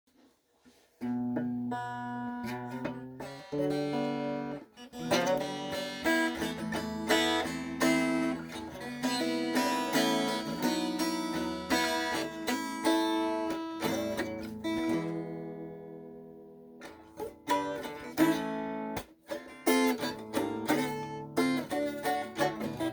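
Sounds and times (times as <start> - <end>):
solo guitar melody: 1.0 - 22.9.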